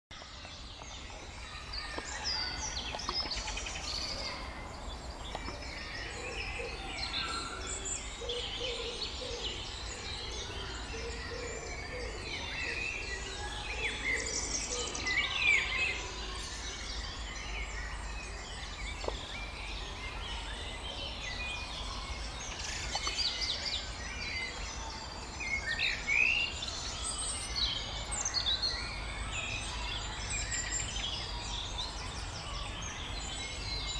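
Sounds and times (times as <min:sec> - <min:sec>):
birds singing and chirping: 0:00.1 - 0:33.9.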